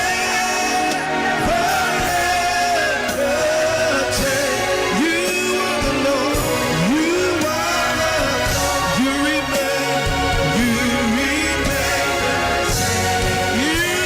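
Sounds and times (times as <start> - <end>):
person singing long sliding notes: 0.0 - 14.0.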